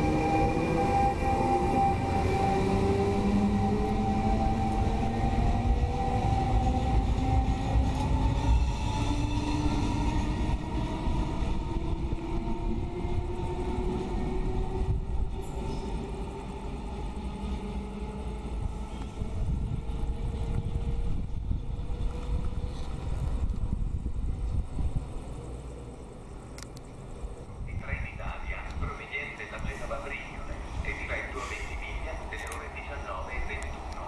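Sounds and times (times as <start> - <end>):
electric locomotive whine: 0.0 - 34.0.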